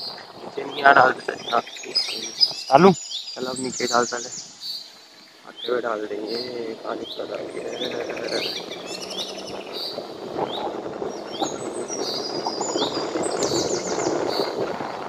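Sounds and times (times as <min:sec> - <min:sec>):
high bird trills: 0:00.0 - 0:14.6
bird rising call: 0:00.0 - 0:14.7
low background noise: 0:00.0 - 0:15.0.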